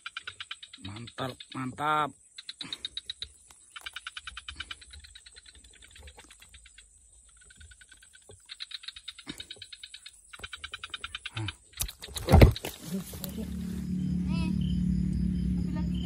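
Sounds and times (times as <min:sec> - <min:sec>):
frog calling with clicking pulses: 0:00.0 - 0:16.0.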